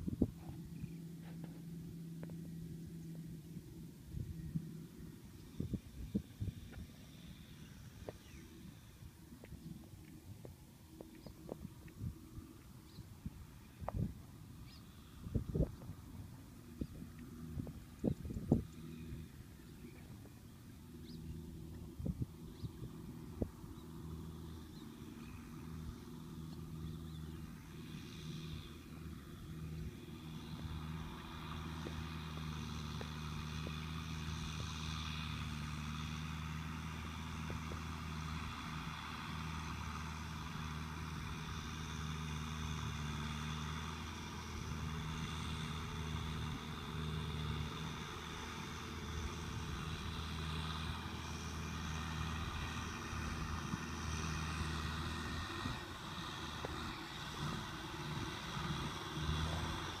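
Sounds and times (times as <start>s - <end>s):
distant tractor engine hum: 0.0s - 60.0s.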